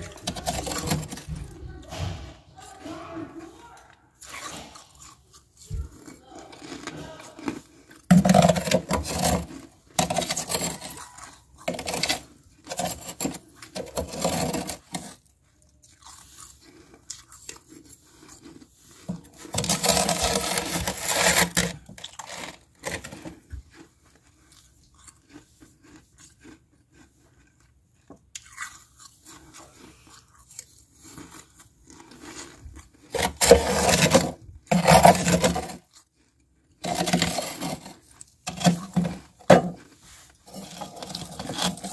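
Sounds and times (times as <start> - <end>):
metal spoon scraping frost: 0.0 - 15.3, 16.1 - 23.4, 28.4 - 35.9, 36.8 - 41.9
crunching and chewing frost: 0.0 - 41.9.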